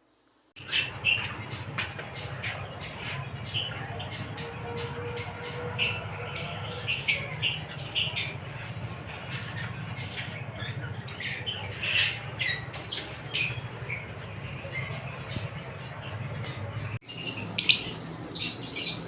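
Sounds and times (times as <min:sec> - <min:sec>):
lovebirds chirping and squawking: 0:00.6 - 0:19.0.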